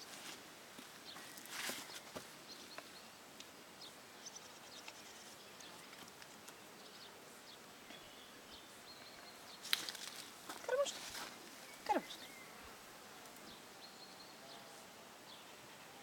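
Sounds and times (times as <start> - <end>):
low outdoor hiss: 0.0 - 16.0.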